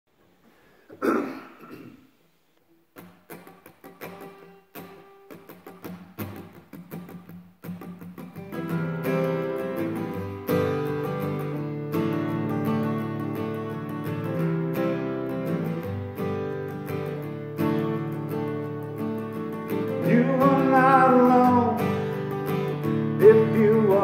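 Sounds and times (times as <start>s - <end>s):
acoustic guitar playing: 2.8s - 24.0s.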